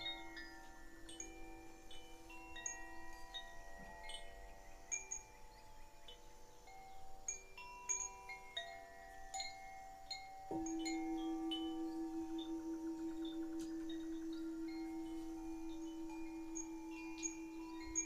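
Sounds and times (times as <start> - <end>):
wind chimes tinkling: 0.0 - 18.0.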